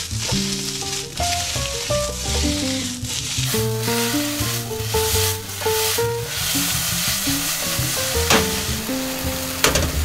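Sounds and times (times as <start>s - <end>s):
food sizzling in a wok: 0.0s - 10.0s
light background music: 0.2s - 10.0s.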